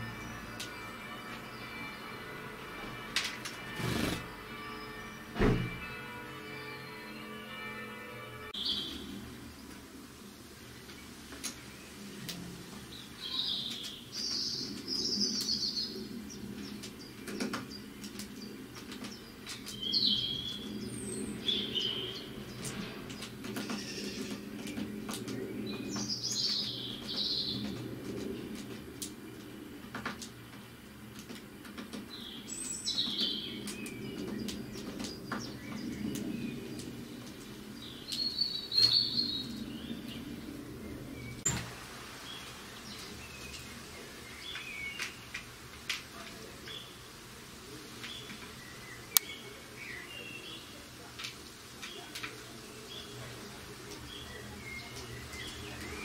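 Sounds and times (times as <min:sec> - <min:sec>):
small birds chirping: 0:10.6 - 0:41.6, 0:42.2 - 0:56.0.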